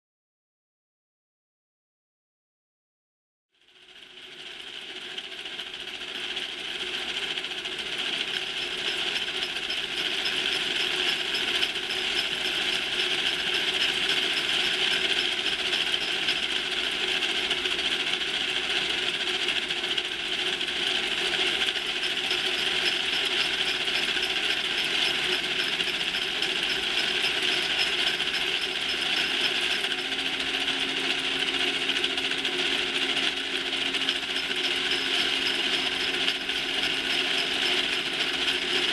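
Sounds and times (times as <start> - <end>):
machinery clatter and rattle: 4.2 - 38.9.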